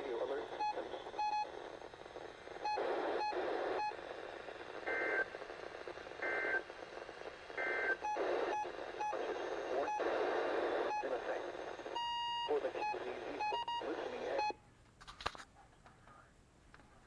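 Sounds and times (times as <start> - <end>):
radio hiss: 0.0 - 14.6.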